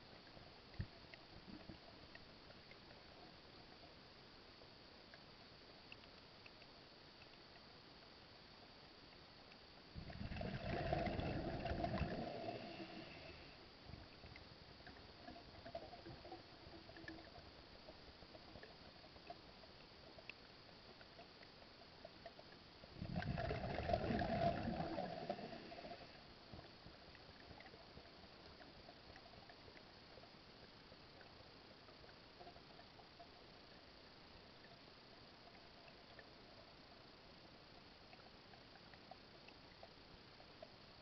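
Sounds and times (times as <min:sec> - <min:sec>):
underwater bubbling: 0:00.0 - 0:07.8, 0:08.5 - 0:41.0
faint clicks: 0:00.2 - 0:04.0, 0:04.6 - 0:08.2, 0:09.0 - 0:12.6, 0:13.9 - 0:36.9.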